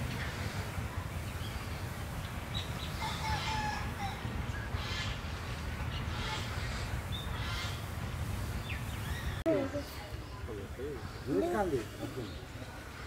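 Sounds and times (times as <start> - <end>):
small birds chirping: 0.0 - 13.0
chickens calling: 1.6 - 13.0.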